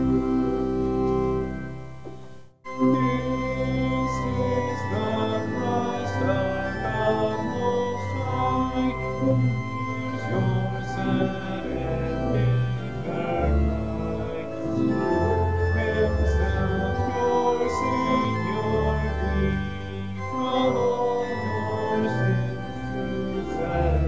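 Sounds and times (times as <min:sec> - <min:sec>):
organ playing: 0:00.0 - 0:24.0
congregation singing a hymn: 0:02.7 - 0:24.0.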